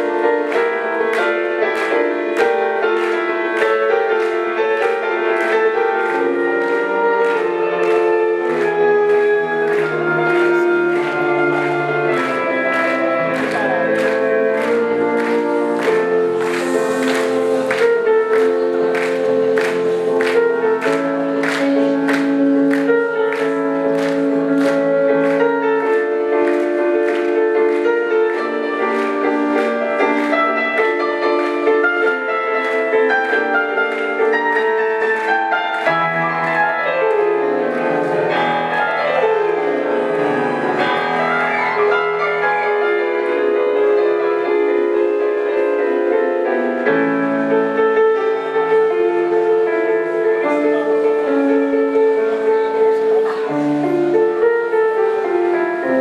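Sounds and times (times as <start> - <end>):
live band with keyboards: 0.0 - 56.0.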